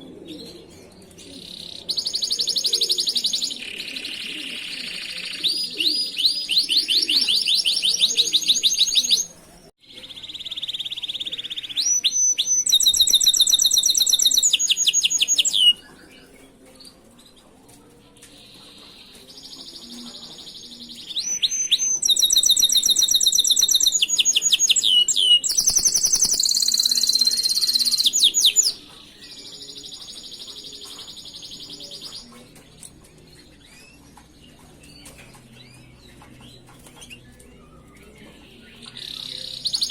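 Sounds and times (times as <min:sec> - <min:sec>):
canary singing: 0:00.0 - 0:16.5, 0:20.4 - 0:39.9.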